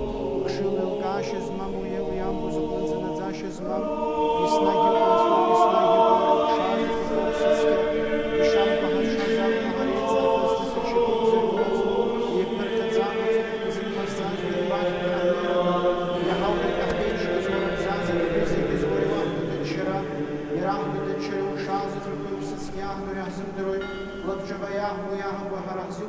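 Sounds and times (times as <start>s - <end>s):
choir chanting unaccompanied: 0.0s - 26.0s.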